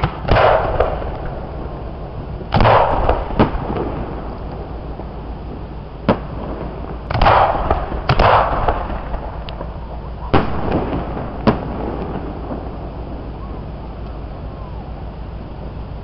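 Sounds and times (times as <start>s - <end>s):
firework shells bursting: 0.0s - 14.4s.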